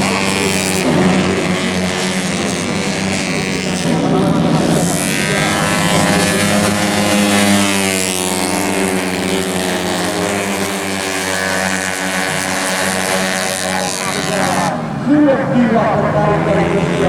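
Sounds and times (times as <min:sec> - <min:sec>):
scooter engines racing: 0:00.0 - 0:17.0.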